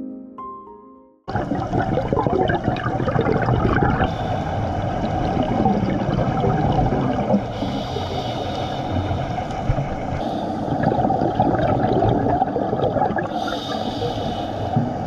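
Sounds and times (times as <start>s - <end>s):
muffled underwater rush: 1.3s - 15.0s.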